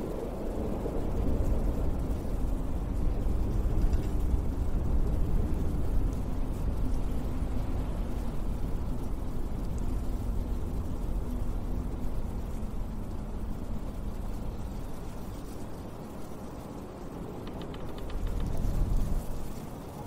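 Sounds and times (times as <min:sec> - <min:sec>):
wind blowing in gusts: 0:00.0 - 0:20.0.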